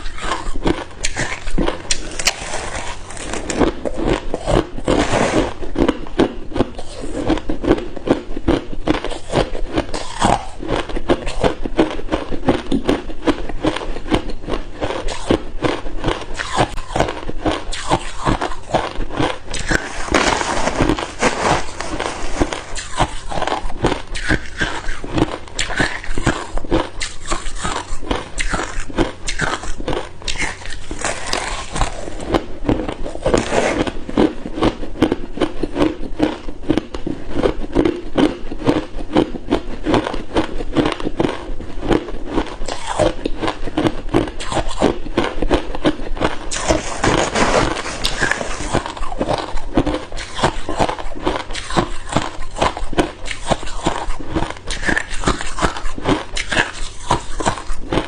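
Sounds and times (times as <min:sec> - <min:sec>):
ice cubes being chewed: 0:00.0 - 0:58.0.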